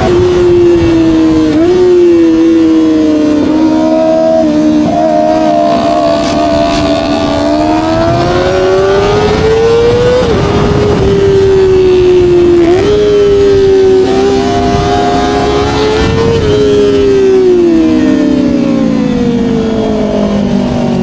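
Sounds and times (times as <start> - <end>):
motorcycle engine at high revs: 0.0 - 21.0.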